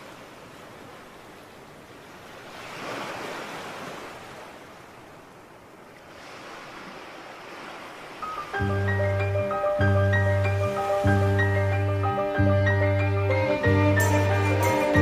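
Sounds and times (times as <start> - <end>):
sea waves breaking on shore: 0.0 - 12.3.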